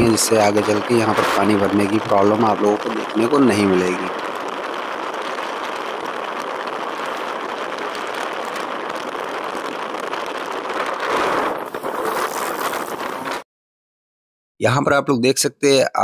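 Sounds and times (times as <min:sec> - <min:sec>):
rushing wind and road noise: 0:00.0 - 0:13.4.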